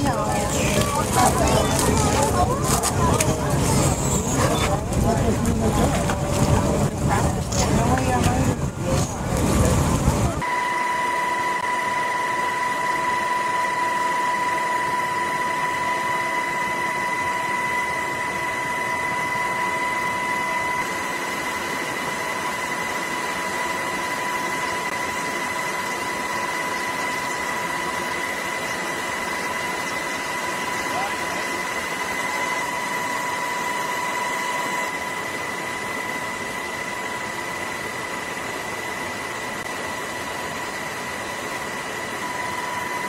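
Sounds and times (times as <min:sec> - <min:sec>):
steady high electronic tone: 0:08.5 - 0:43.0.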